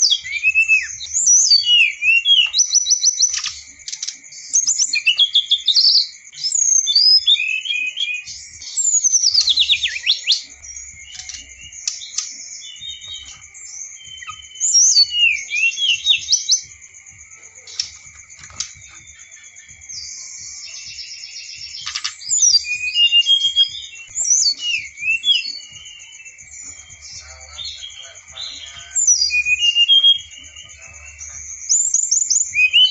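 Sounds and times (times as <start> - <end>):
songbird singing chirps and trills: 0.0 - 32.9.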